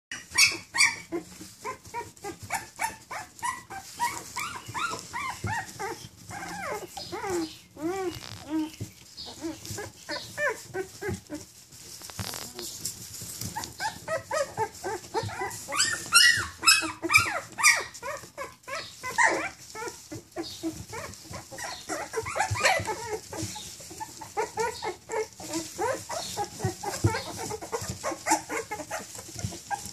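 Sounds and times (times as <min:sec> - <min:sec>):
puppies whining and squeaking: 0:00.1 - 0:29.9.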